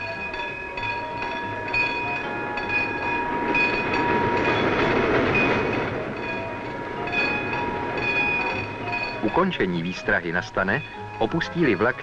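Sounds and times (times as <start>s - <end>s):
crossing warning bell ringing: 0.0s - 12.0s
steam train passing: 0.0s - 12.0s.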